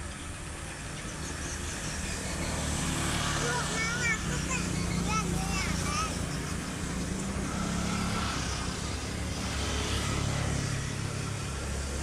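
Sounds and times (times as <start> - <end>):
broad rushing noise: 0.0 - 12.0
diesel locomotive engine droning: 0.0 - 12.0.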